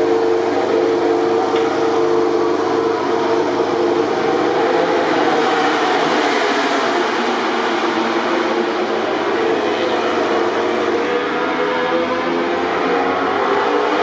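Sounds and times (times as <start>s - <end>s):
racing motorcycle engines high revs: 0.0s - 14.0s.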